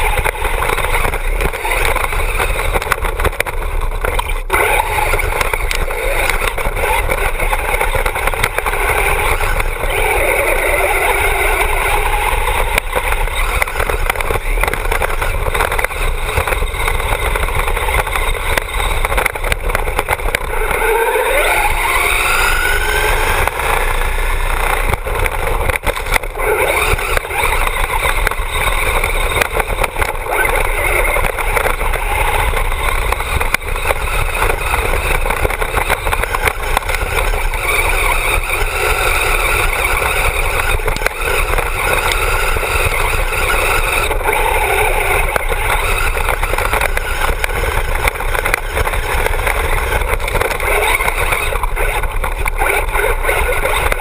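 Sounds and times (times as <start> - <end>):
rc car motor whine: 0.0 - 54.0
tyres on dirt: 0.0 - 54.0.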